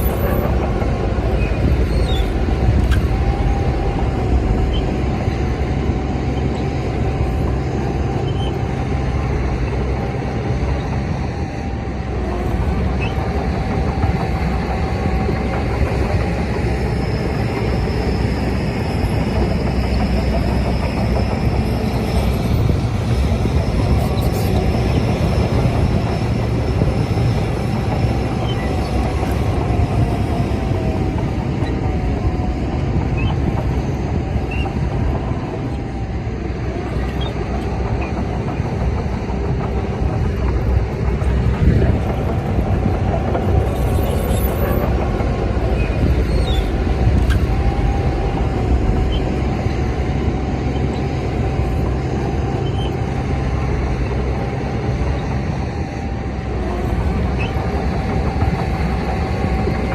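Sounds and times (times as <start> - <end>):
bulldozer diesel engine: 0.0 - 59.9
steel tracks clattering and squealing: 0.0 - 59.9.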